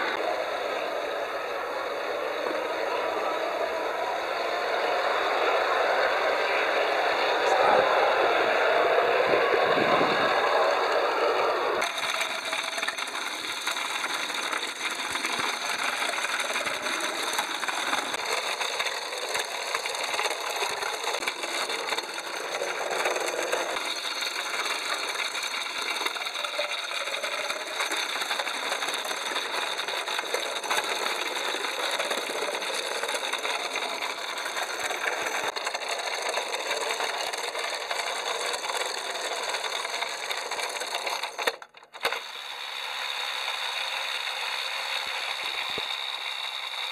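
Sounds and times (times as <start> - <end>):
clockwork toy train clattering: 0.0 - 46.9
small electric motors running: 0.0 - 46.9.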